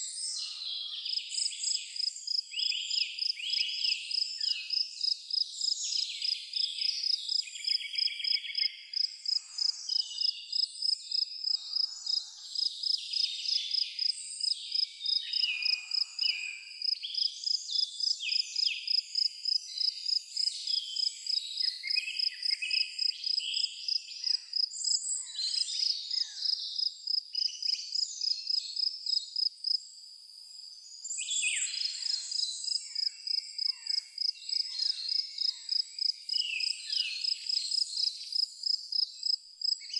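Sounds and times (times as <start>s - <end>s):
birds singing: 0.0s - 10.8s, 11.4s - 28.8s, 30.9s - 39.9s
cricket chirping: 0.1s - 39.9s.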